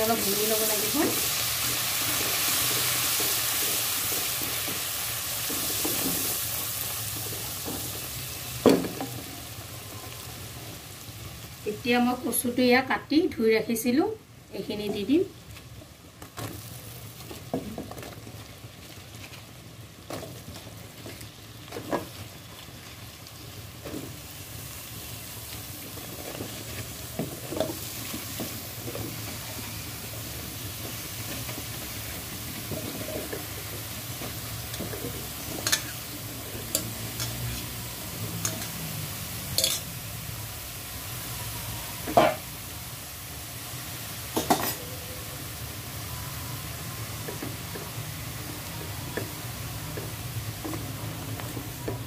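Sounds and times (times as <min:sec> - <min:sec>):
stems sizzling in hot oil: 0:00.0 - 0:52.0.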